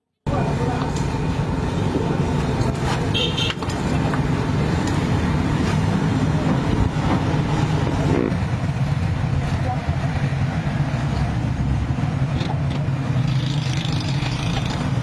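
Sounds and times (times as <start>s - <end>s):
vehicle engine rumble: 0.2s - 15.0s.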